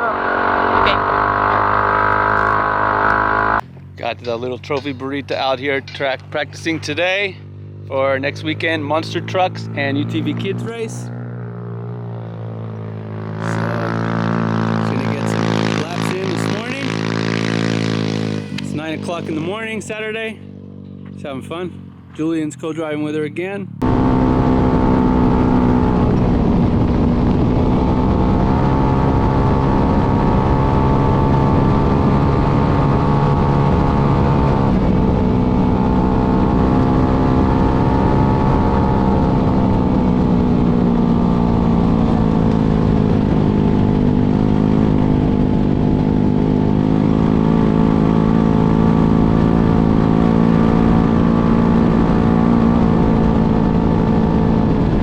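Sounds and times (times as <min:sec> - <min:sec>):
single-cylinder engine running hard: 0:00.0 - 0:22.9, 0:23.6 - 0:55.0.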